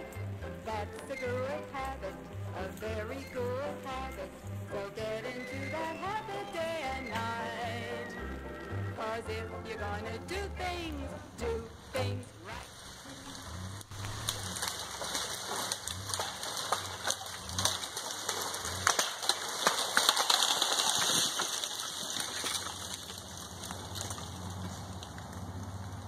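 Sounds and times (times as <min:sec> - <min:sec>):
truck engine humming low: 0:00.0 - 0:19.0, 0:22.6 - 0:26.0
branches crackling and snapping: 0:00.0 - 0:26.0.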